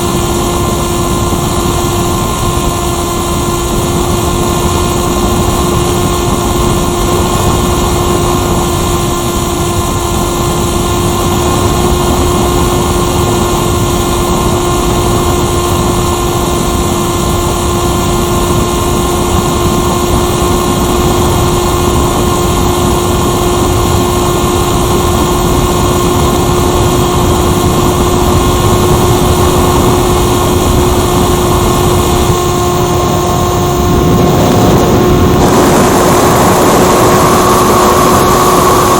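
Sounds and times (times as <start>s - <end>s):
model aircraft motor whine: 0.0s - 38.9s
wind rushing: 0.0s - 38.9s.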